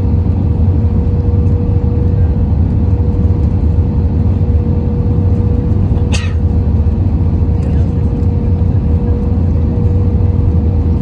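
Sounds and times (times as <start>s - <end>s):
airplane cabin engine rumble: 0.0s - 11.0s
steady hum: 0.0s - 11.0s.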